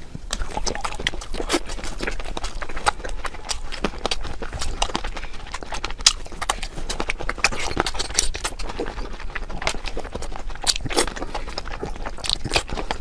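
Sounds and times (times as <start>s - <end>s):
mouth chewing wetly: 0.0s - 13.0s.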